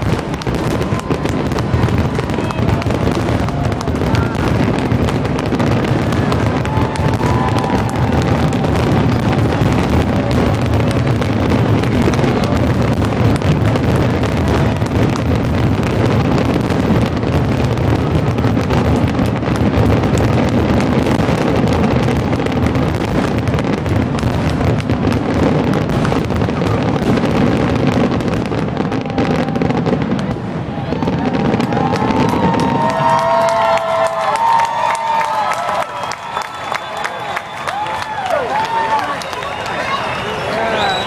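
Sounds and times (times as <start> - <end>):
fireworks bursting: 0.0 - 41.0.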